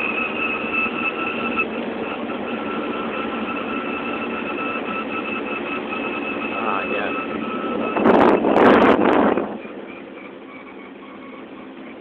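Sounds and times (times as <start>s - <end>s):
high whine: 0.0s - 12.0s
quad bike engine running: 0.0s - 12.0s.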